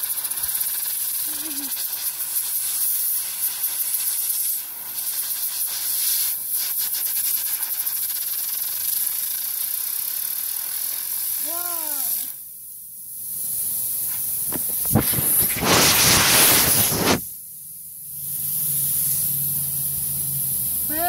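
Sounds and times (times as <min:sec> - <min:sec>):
compressed air hissing: 0:00.0 - 0:12.5, 0:13.1 - 0:21.0.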